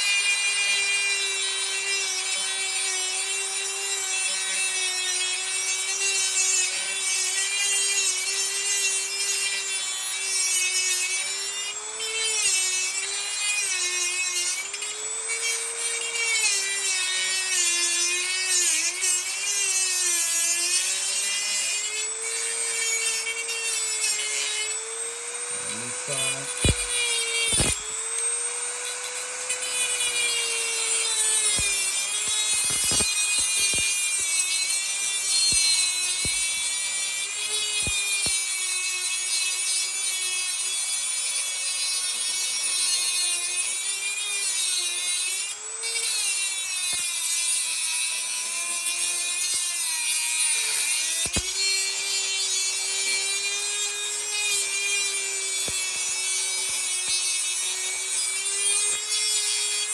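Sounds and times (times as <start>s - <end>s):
rotary tool grinding metal: 0.0s - 59.9s.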